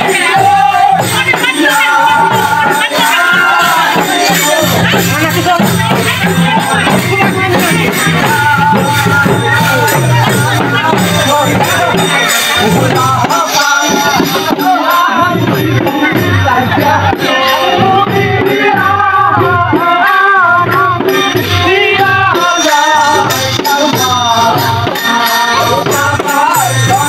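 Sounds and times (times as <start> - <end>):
dhol drum beat: 0.0 - 27.0
rattling percussion: 0.0 - 27.0.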